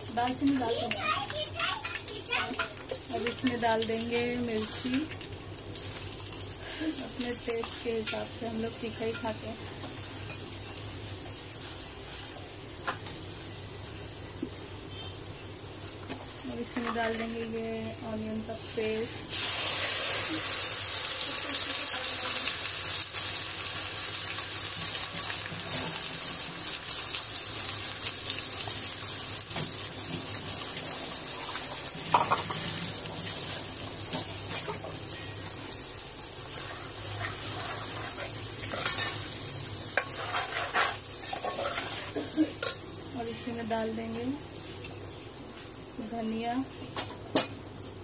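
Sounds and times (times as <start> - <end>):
paste sizzling in hot oil: 0.0 - 48.0.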